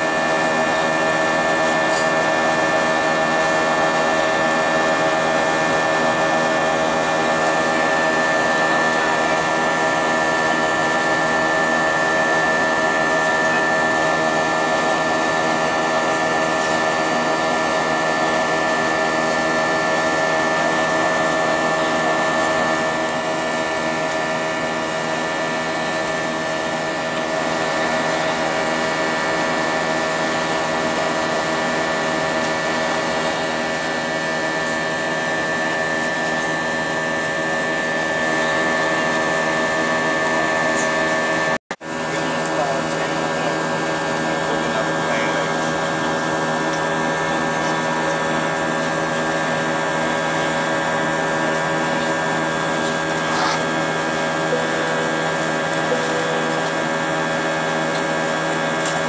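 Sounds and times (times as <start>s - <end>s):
airplane cabin engine drone: 0.0s - 59.0s
steady engine tones: 0.0s - 59.0s.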